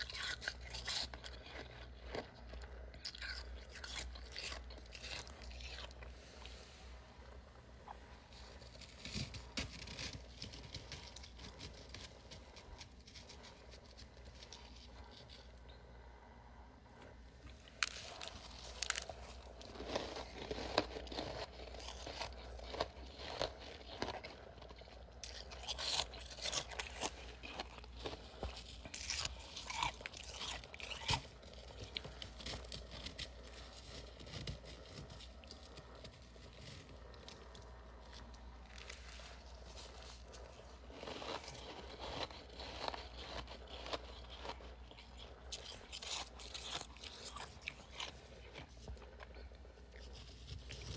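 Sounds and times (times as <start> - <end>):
frost being chewed: 0.0 - 50.9.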